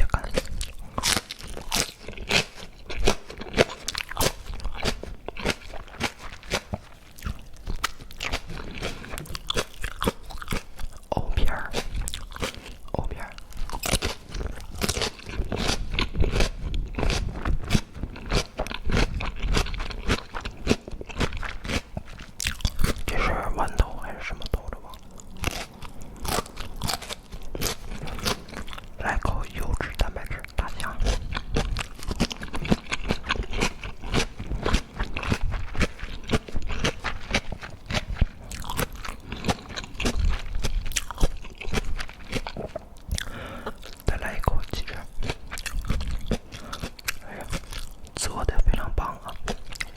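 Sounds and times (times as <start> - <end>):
crunchy food being chewed: 0.0 - 49.9.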